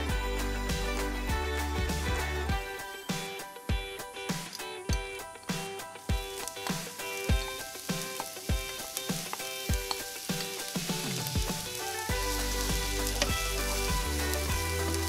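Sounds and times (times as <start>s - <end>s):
background music with beat: 0.0s - 15.0s
onion sizzling in oil: 2.7s - 15.0s.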